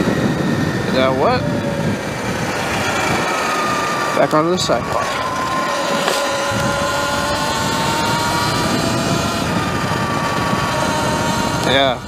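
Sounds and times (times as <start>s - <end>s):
electric motorbike motor whining: 0.0s - 12.0s
steady rushing noise: 0.0s - 12.0s.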